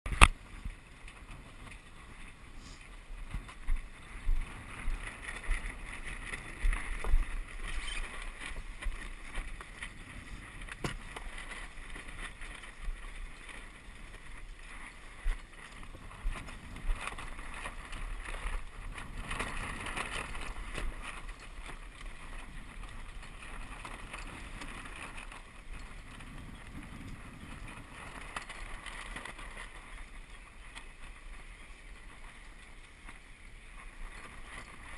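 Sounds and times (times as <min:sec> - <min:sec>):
wind gusting on microphone: 0:00.1 - 0:34.9.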